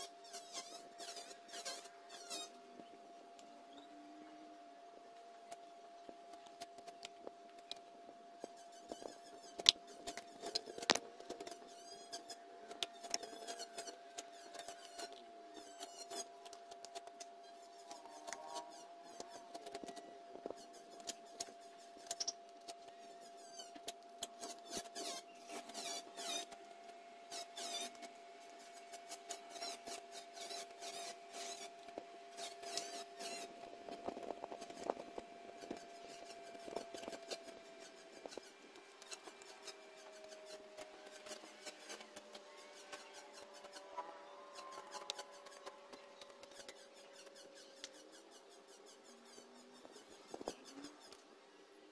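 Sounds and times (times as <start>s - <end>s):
knife scraping bamboo: 0.0s - 2.6s, 8.4s - 26.6s, 27.3s - 51.3s.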